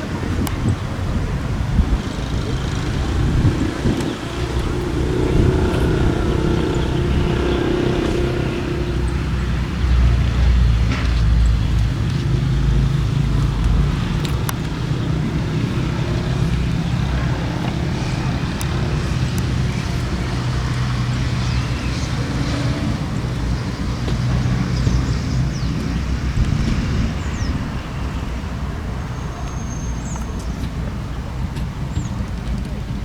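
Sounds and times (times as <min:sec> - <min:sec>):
road traffic hum: 0:00.0 - 0:33.0
wind noise: 0:00.0 - 0:33.0.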